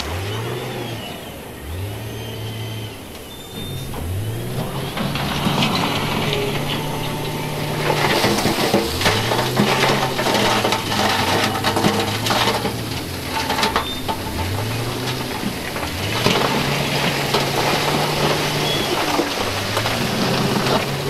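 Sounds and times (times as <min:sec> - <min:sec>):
heavy diesel engines revving: 0:00.0 - 0:21.0
rock clattering and scraping: 0:03.5 - 0:21.0.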